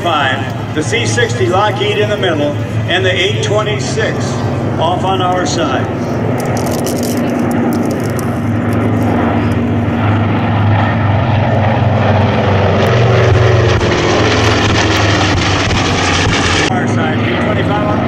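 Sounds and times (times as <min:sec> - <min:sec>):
propeller aircraft passing low: 0:00.0 - 0:18.0.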